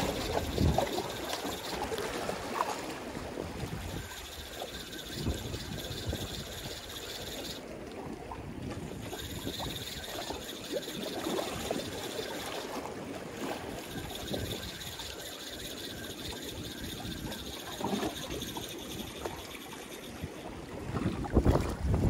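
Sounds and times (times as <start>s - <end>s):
fishing reel whirring: 0.0s - 7.7s, 8.8s - 20.5s.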